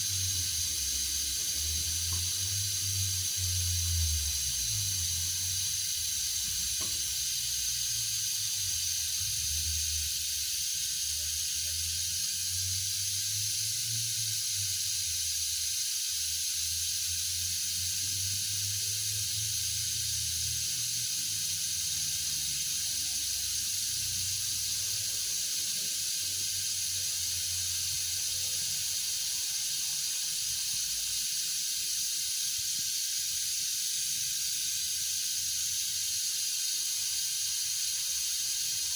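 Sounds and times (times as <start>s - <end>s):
brake bleeding tool hissing: 0.0s - 38.9s.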